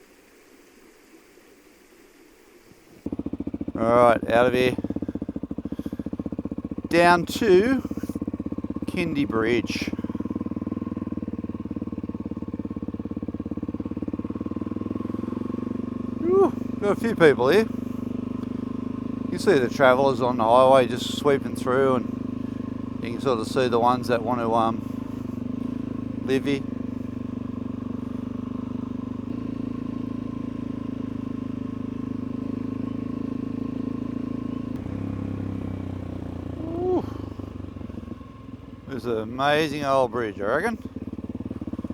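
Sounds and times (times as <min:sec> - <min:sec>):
motorcycle engine running: 0:02.7 - 0:41.9.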